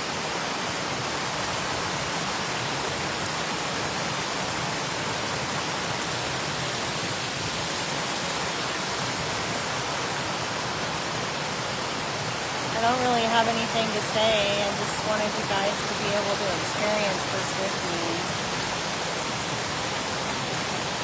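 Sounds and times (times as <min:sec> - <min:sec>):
small waterfall rushing: 0:00.0 - 0:21.0.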